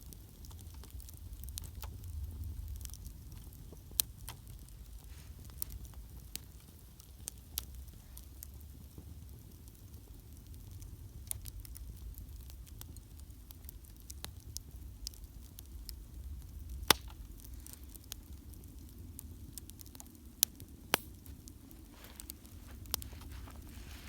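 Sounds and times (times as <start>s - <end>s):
campfire crackling and popping: 0.0s - 24.0s
low steady rumble: 0.0s - 24.0s.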